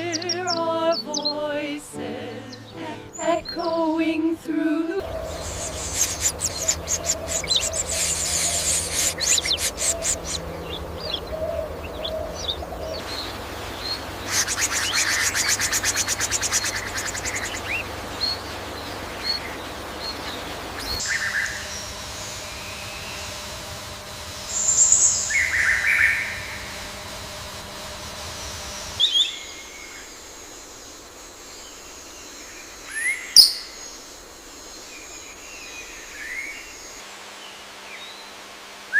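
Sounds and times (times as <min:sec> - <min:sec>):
birds trilling chatter: 0:00.0 - 0:01.4, 0:05.0 - 0:37.0
loud burst of bird calls: 0:05.0 - 0:37.0.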